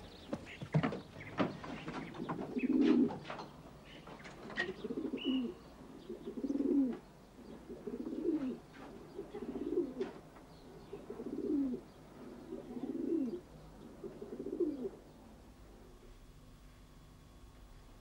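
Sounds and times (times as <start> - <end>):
pigeon cooing: 0.0 - 15.1.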